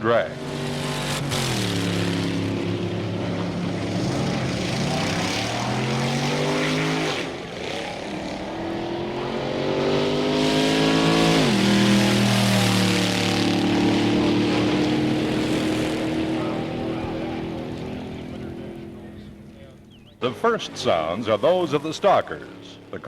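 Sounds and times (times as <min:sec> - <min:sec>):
drag racing car engine accelerating: 0:00.0 - 0:23.0.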